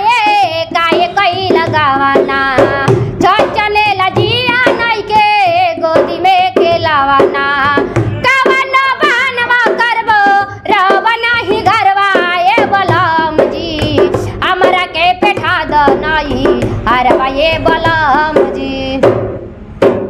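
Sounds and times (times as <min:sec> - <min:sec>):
woman singing: 0:00.0 - 0:19.2
drum strokes: 0:00.0 - 0:20.0.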